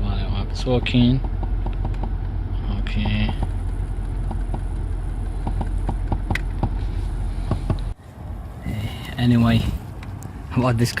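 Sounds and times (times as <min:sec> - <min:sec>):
car running with low hum: 0:00.0 - 0:11.0.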